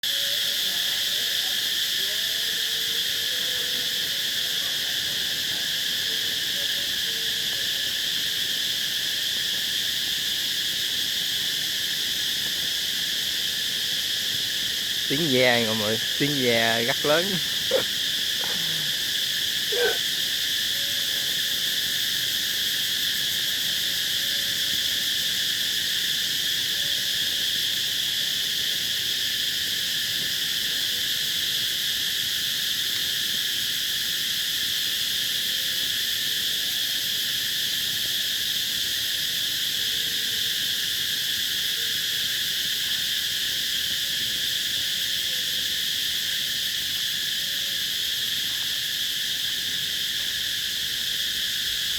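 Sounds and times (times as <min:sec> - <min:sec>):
cicadas droning: 0:00.0 - 0:51.9.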